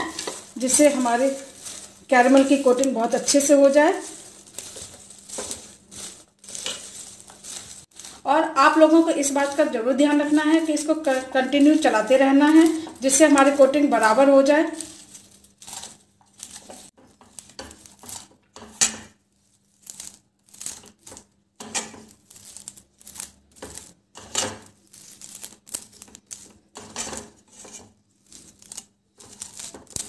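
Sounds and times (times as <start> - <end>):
spatula stirring popcorn in pan: 0.0 - 30.0.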